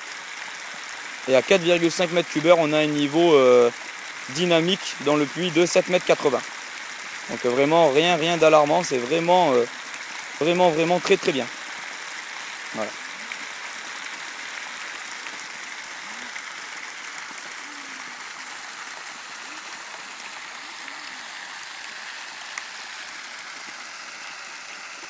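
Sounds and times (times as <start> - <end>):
water gushing from hose into tub: 0.0 - 25.0.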